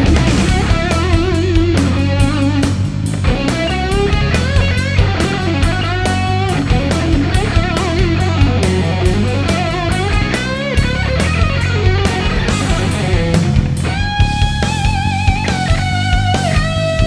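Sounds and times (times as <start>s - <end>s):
bass guitar: 0.0s - 17.0s
electric guitar solo: 0.0s - 17.0s
steady drum hits: 0.0s - 17.0s.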